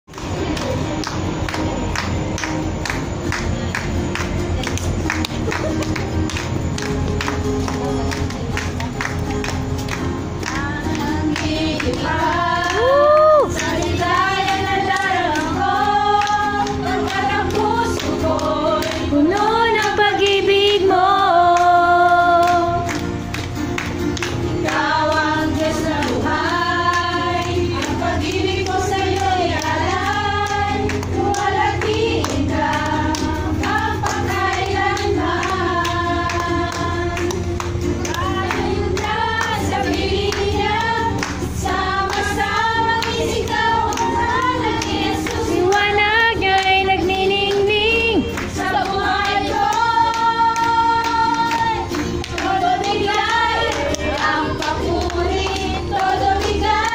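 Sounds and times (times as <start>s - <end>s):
strummed acoustic guitar: 0.1s - 12.8s, 13.5s - 56.9s
hand clapping: 0.1s - 20.9s, 21.5s - 56.9s
women singing together: 0.1s - 56.9s.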